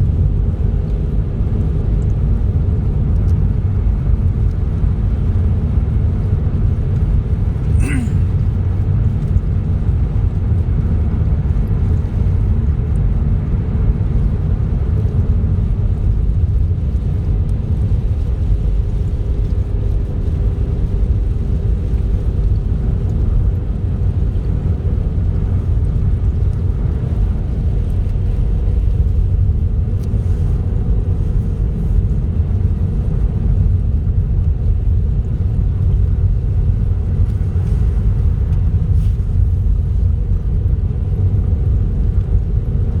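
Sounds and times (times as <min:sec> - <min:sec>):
car engine and tyre noise: 0:00.0 - 0:43.0.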